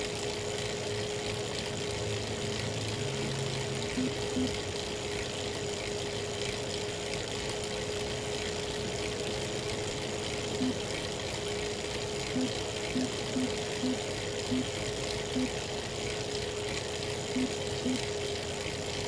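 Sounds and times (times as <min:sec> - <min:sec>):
bike trainer whine: 0:00.0 - 0:19.0.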